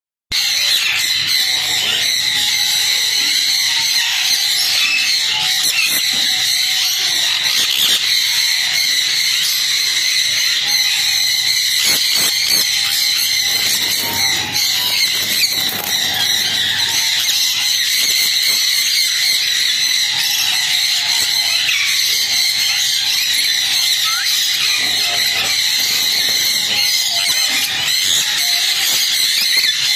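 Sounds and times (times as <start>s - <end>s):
high-pitched animal chorus: 0.4s - 29.9s.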